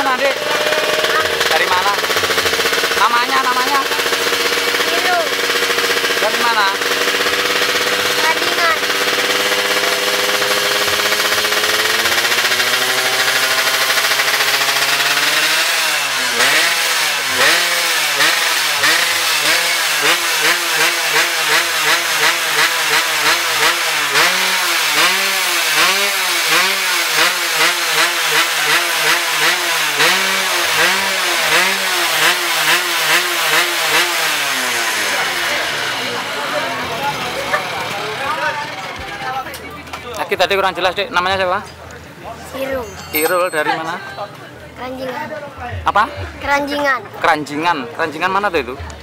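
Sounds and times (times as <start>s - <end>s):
motorcycle engine revving: 0.0s - 43.7s, 44.9s - 49.0s.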